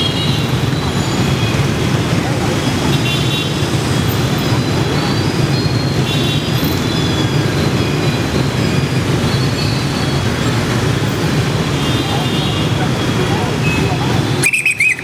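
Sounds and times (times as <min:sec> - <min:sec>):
motorbike traffic drone: 0:00.0 - 0:15.0.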